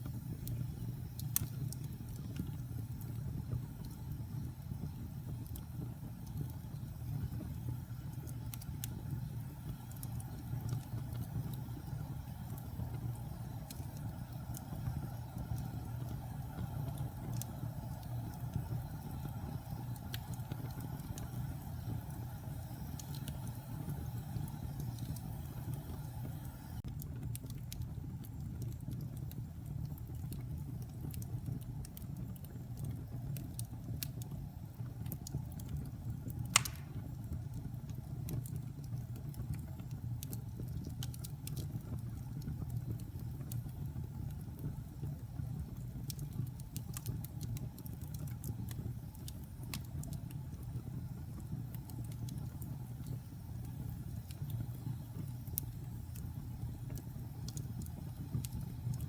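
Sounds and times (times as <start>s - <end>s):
fire rumbling and crackling: 0.0s - 59.0s.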